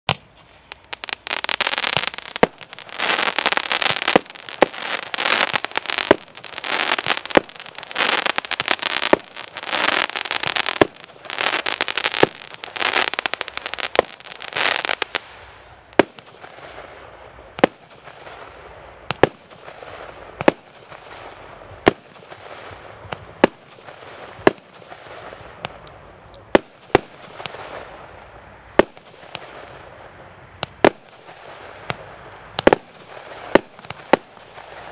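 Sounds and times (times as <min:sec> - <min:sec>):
fireworks crackling and banging: 0:00.1 - 0:34.9.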